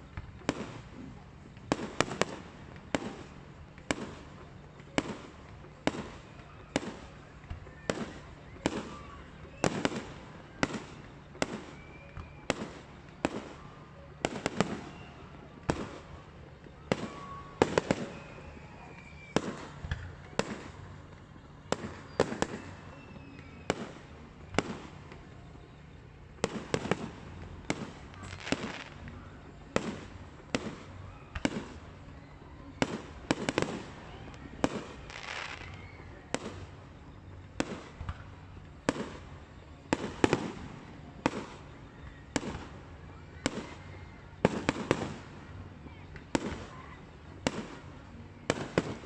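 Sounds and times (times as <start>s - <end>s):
fireworks bangs: 0.1s - 32.0s, 32.7s - 36.8s, 37.4s - 49.0s.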